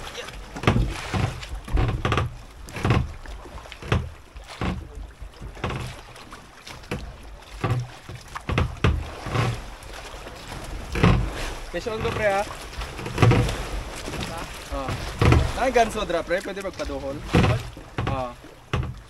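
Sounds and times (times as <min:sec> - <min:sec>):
waves slapping against boat hull: 0:00.0 - 0:19.0.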